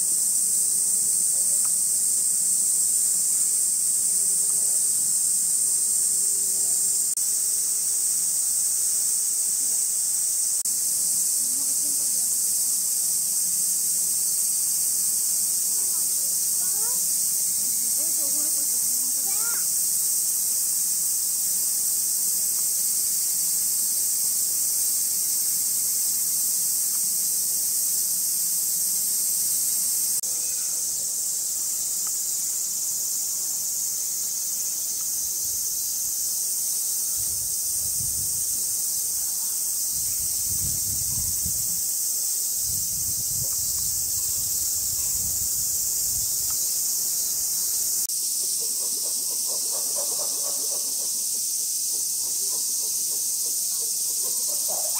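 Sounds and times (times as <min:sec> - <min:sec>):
cicadas chorus: 0:00.0 - 0:54.9.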